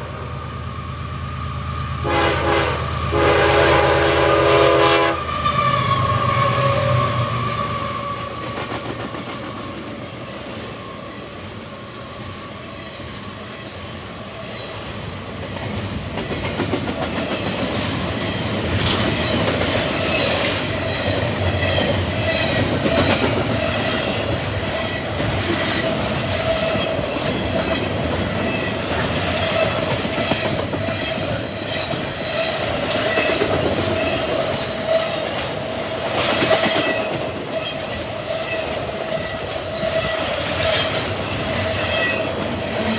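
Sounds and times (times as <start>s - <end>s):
freight train wheels clacking: 0.0s - 42.9s.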